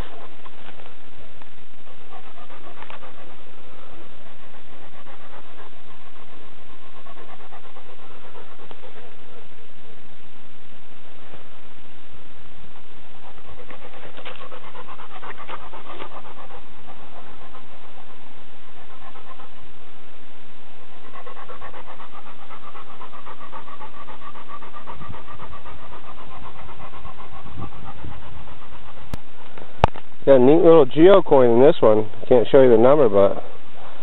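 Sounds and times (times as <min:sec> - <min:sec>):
dog panting: 0:00.0 - 0:09.9, 0:12.8 - 0:20.0, 0:20.7 - 0:34.0
low rumbles: 0:00.0 - 0:34.0.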